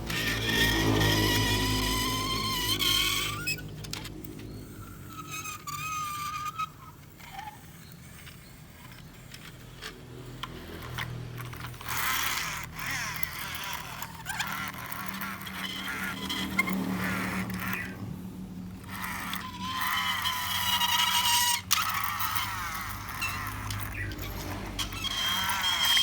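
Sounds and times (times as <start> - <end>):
plastic toy clicks and scraping: 0.0 - 26.0.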